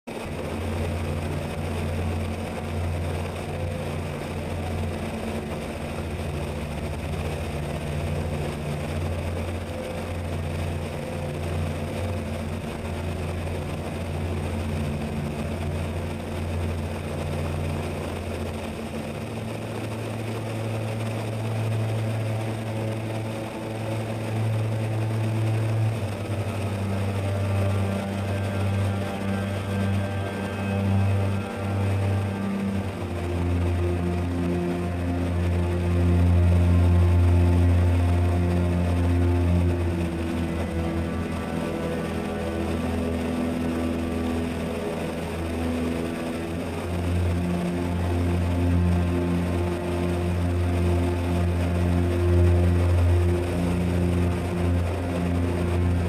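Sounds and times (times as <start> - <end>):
electric motor and propeller drone: 0.1 - 56.0.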